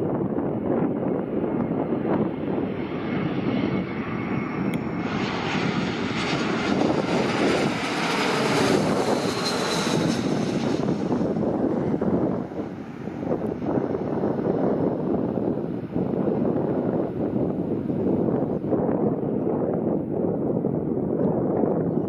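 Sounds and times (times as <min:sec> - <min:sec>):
jet airliner passing: 0:00.0 - 0:21.9
wind on microphone: 0:00.0 - 0:22.0.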